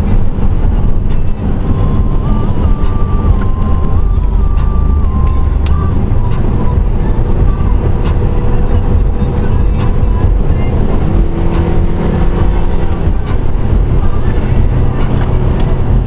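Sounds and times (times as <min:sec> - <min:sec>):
car engine: 0:00.0 - 0:16.0
rap music from car stereo: 0:00.0 - 0:16.0.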